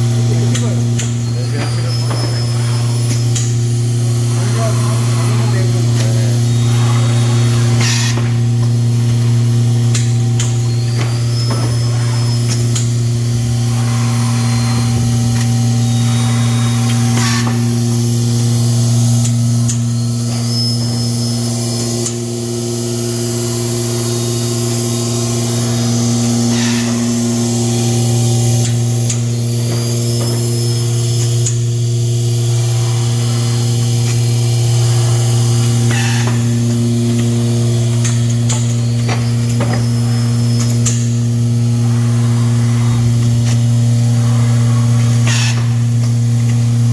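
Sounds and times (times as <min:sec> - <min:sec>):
machine hiss: 0:00.0 - 0:46.9
packaging machine electrical hum: 0:00.0 - 0:46.9.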